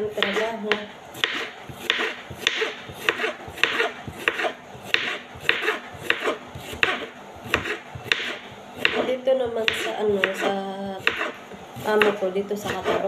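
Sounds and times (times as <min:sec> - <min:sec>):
knife chopping on wooden board: 0:00.1 - 0:13.0.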